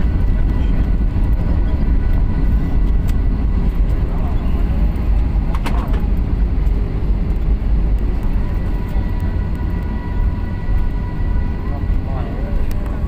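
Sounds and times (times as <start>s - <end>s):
deep rumble of jet on runway: 0.0s - 13.0s.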